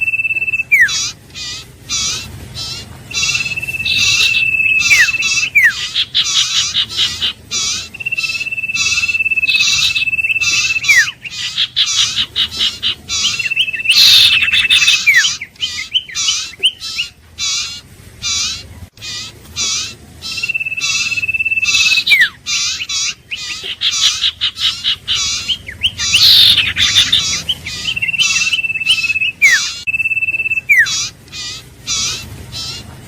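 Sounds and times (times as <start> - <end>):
rapid repeated chirping: 0.0 - 33.0.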